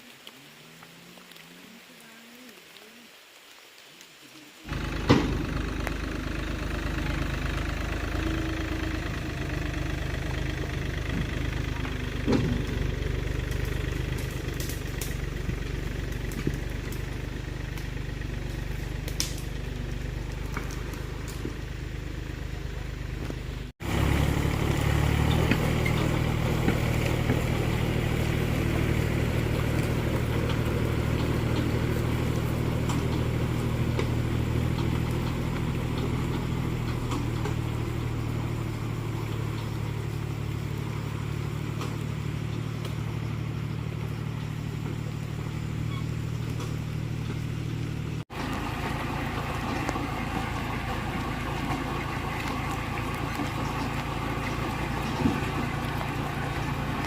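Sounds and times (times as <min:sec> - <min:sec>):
engine idling: 0:04.6 - 0:57.0.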